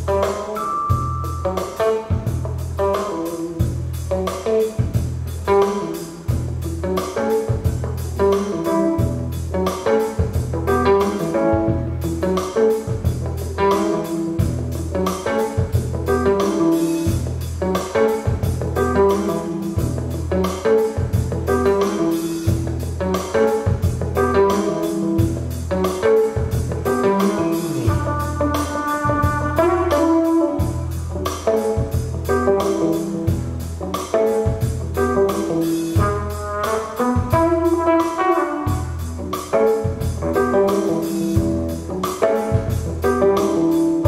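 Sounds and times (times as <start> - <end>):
guitar-led jazzy music: 0.0 - 44.0.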